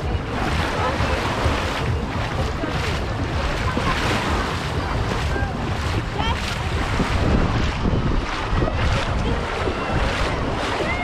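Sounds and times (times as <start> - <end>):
faint voices: 0.0 - 11.0
small waves washing on shore: 0.0 - 11.0
wind buffeting microphone: 0.0 - 11.0.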